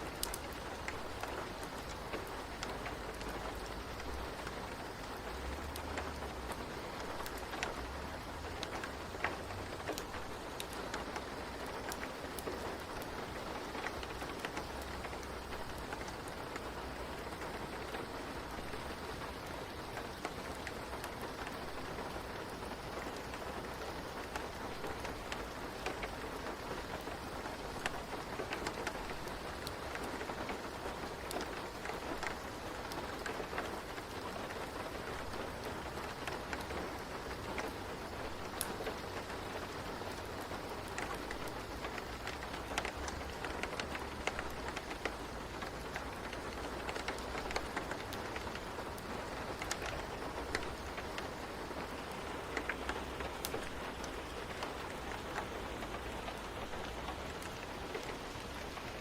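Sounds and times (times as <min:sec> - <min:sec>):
rain falling: 0:00.0 - 0:59.0
wood fire crackling: 0:00.0 - 0:59.0.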